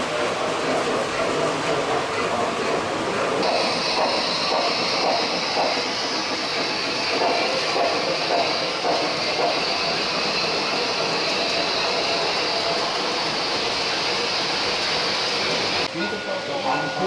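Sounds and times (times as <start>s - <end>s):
model train wheels rumbling: 0.0s - 15.9s.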